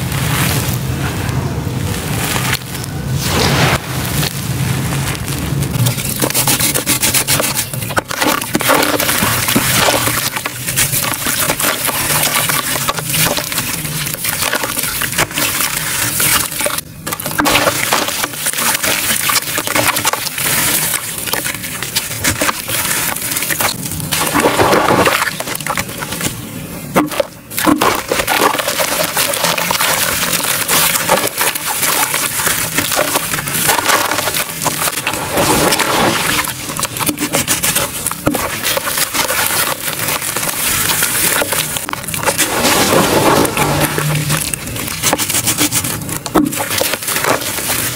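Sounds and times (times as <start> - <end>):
wet charcoal squeezed in water: 1.8 - 47.9
hands crushing charcoal: 1.9 - 47.9.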